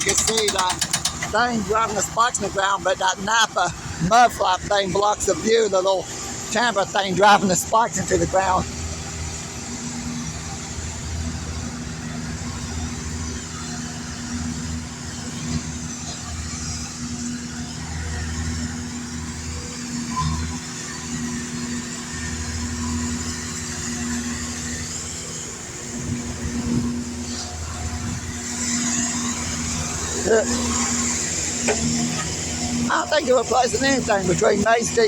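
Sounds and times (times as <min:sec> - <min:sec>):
machinery engine humming: 0:00.0 - 0:35.0.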